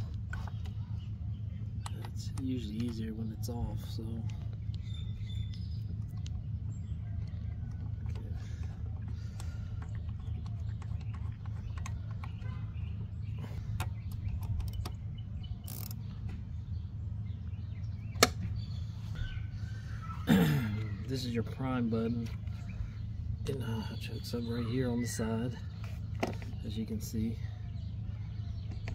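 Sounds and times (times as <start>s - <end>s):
low background hum: 0.0s - 28.9s
faint bird chirps: 0.3s - 28.9s.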